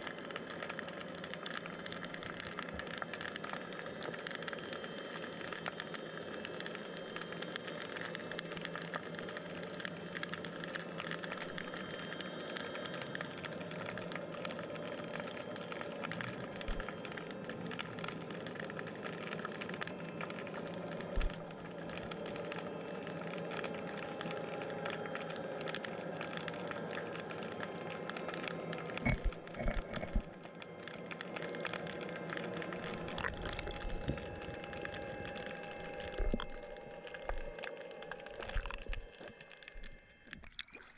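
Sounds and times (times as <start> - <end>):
fine crackle of small clicks: 0.0 - 40.9
underwater hum with held tones: 0.0 - 40.9.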